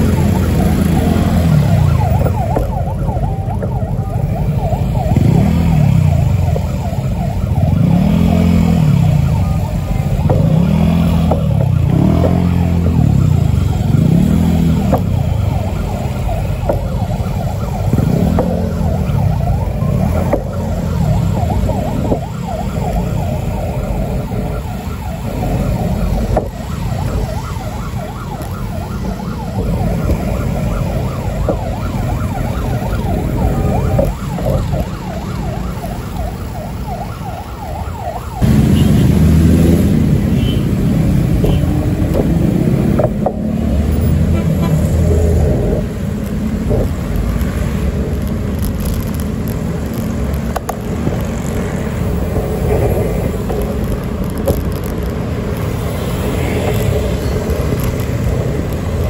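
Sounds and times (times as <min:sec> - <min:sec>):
road traffic rumble: 0:00.0 - 0:59.0
siren yelping: 0:00.0 - 0:59.0.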